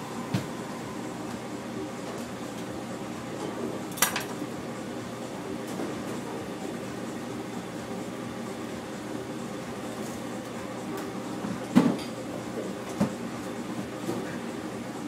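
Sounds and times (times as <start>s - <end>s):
kitchen background hum: 0.0s - 15.0s.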